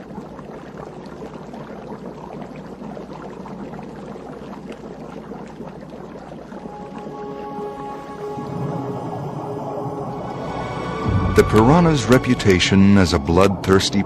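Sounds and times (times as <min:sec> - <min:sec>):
bubbling gurgling water: 0:00.0 - 0:14.0.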